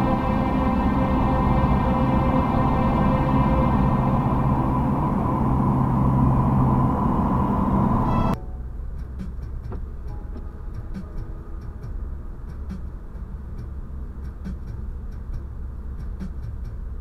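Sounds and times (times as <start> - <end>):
car road noise rumble: 0.0 - 17.0.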